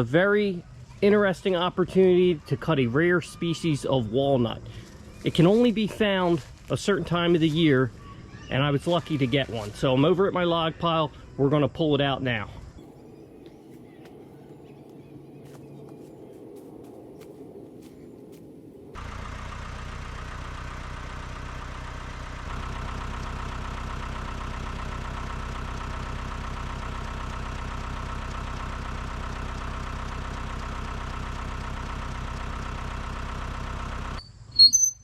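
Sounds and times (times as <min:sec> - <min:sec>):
engine running: 0:00.0 - 0:34.7.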